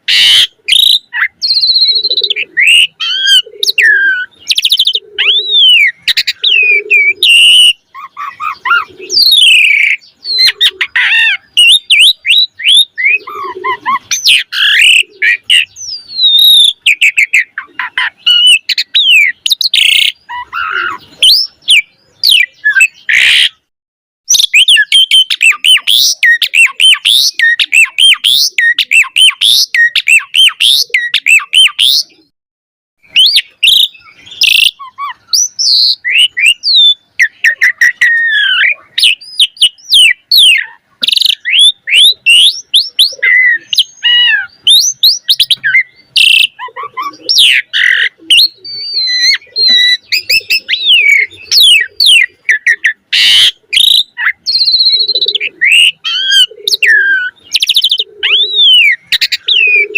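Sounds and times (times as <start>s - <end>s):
starling singing: 0.0s - 23.7s, 24.3s - 32.3s, 33.0s - 59.9s.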